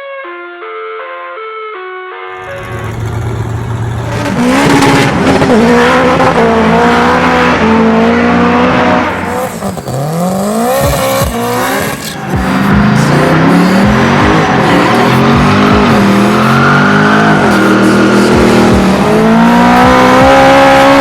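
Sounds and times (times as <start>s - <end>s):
car engine revving: 2.4s - 21.0s.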